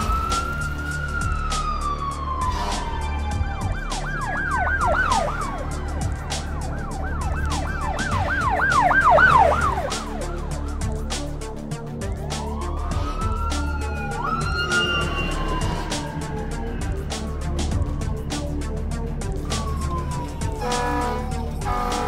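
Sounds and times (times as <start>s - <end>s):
music with steady beat: 0.0s - 22.0s
police siren wailing and yelping: 0.0s - 22.0s.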